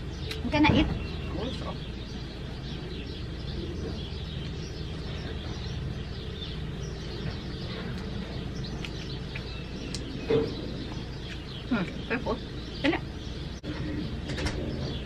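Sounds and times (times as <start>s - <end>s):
birds chirping faintly: 0.0s - 15.0s
low outdoor rumble: 0.0s - 15.0s.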